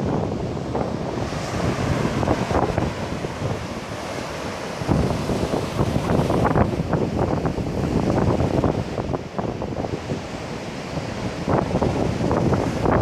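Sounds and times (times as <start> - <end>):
heavy surf breaking on beach: 0.0 - 13.0
wind buffeting microphone: 0.0 - 13.0.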